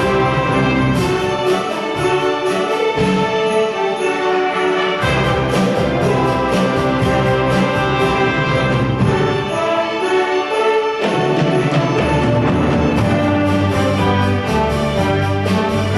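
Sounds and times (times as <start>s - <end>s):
orchestra playing with brass: 0.0s - 15.9s.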